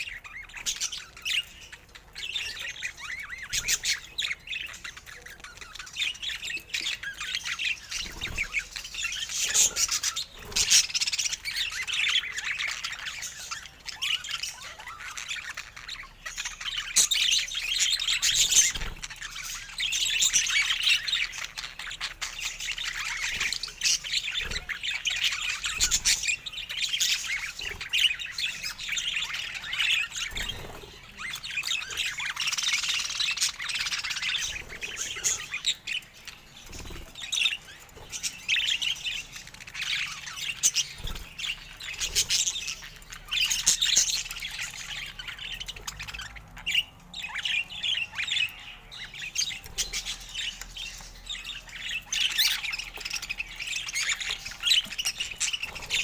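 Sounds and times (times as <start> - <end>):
budgerigar chirps and squawks: 0.0 - 56.0.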